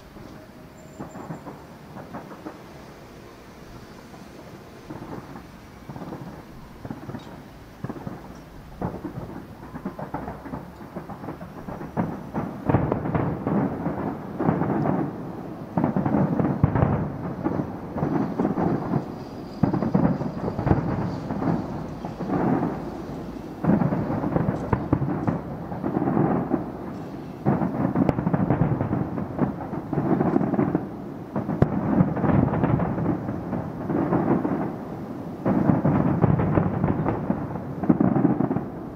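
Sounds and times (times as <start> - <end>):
fireworks booming: 0.0 - 38.9.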